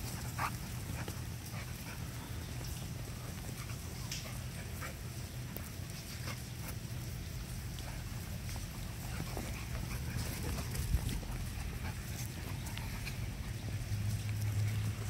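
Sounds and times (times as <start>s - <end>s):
puppies scuffling: 0.0s - 15.0s
steady low rumble: 0.0s - 15.0s.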